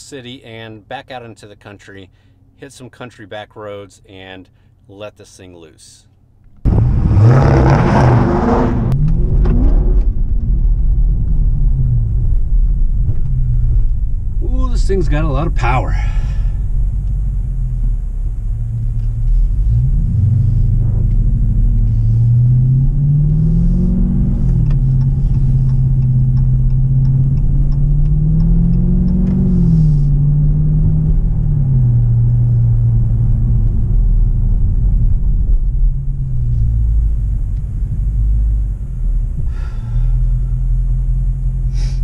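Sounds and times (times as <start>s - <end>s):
car engine accelerating: 6.6s - 42.0s.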